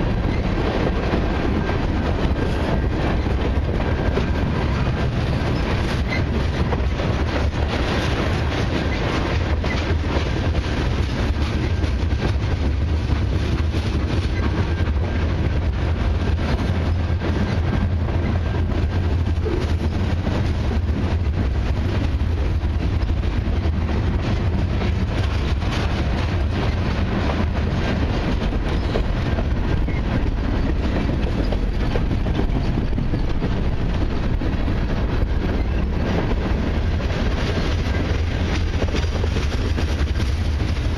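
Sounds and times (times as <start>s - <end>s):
freight train wheels rumbling on rails: 0.0s - 40.9s.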